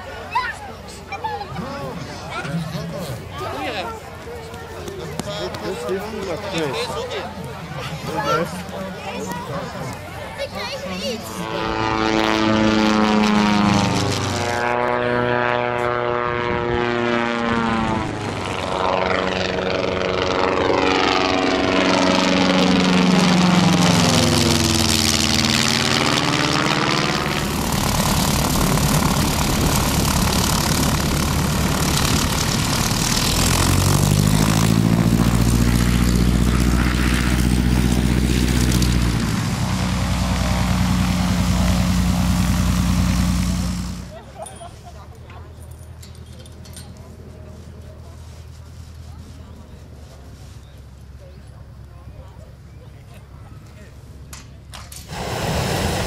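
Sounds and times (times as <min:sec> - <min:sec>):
light aircraft engine passing: 0:00.0 - 0:56.0.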